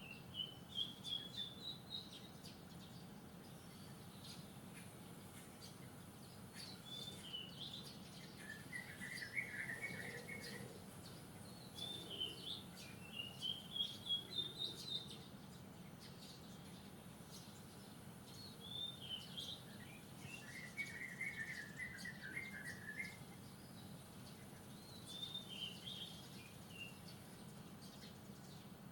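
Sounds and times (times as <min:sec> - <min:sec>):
bird singing: 0:00.0 - 0:28.9
low background noise: 0:00.0 - 0:28.9.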